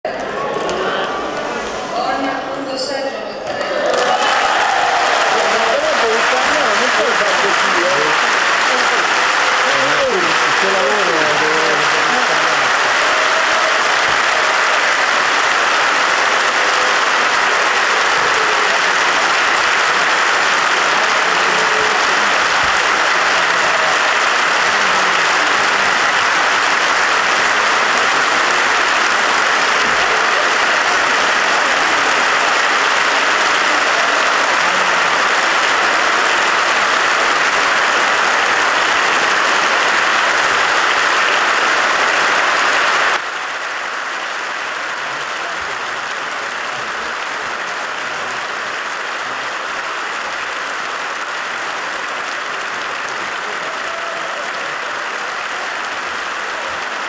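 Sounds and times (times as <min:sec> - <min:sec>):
crowd applauding: 0:00.0 - 0:02.7, 0:03.4 - 0:57.0.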